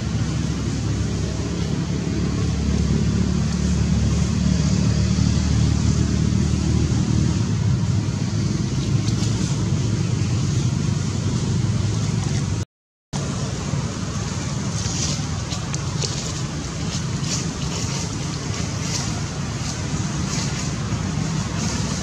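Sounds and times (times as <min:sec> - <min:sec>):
engine running with low rumble: 0:00.0 - 0:12.6, 0:13.2 - 0:22.0.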